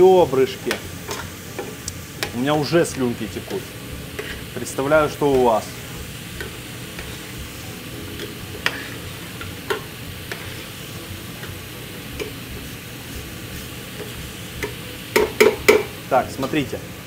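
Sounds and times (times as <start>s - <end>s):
steady low hum: 0.0s - 16.1s
meat sizzling in a frying pan: 0.0s - 17.0s.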